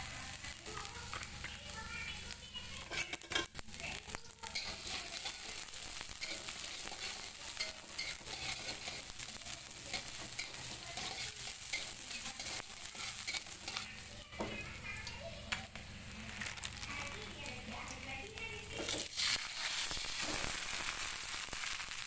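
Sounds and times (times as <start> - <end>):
shallots sizzling in hot oil: 0.0 - 22.0.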